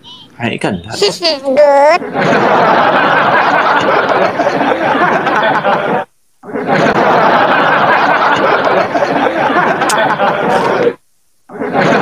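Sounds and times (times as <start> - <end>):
crowd chattering and laughing: 1.9 - 12.0.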